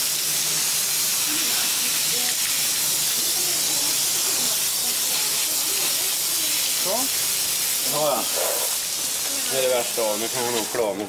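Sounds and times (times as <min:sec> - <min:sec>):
hose nozzle spraying water: 0:00.0 - 0:11.0.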